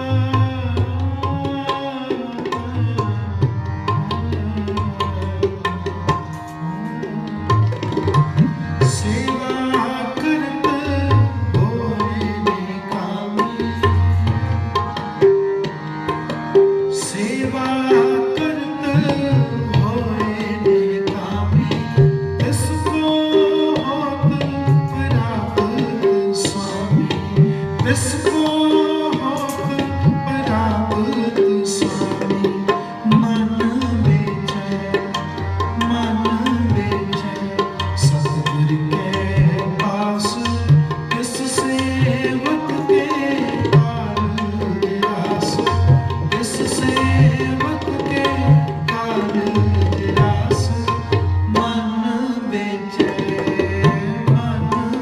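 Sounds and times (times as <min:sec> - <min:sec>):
tabla playing: 0:00.0 - 0:55.0.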